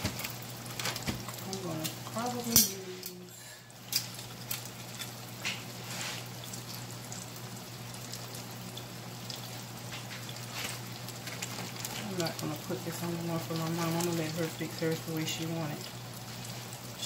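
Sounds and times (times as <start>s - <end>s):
fish sizzling in hot oil: 0.0s - 17.0s
low steady hum: 0.0s - 17.0s.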